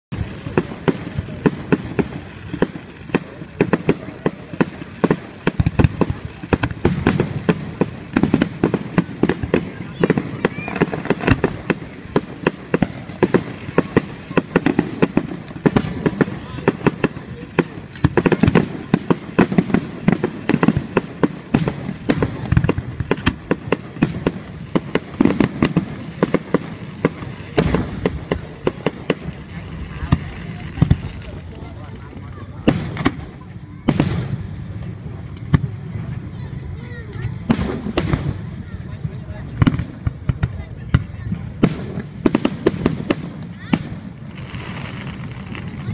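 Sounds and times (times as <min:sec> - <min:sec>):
fireworks bangs and cracks: 0:00.1 - 0:45.9.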